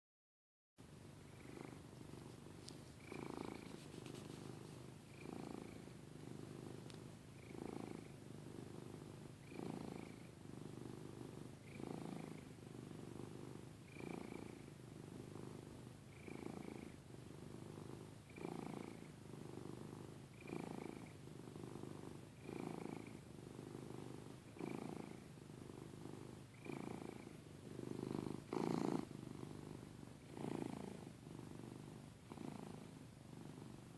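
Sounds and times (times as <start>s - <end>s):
cat snoring: 1.2s - 2.4s, 3.0s - 33.9s.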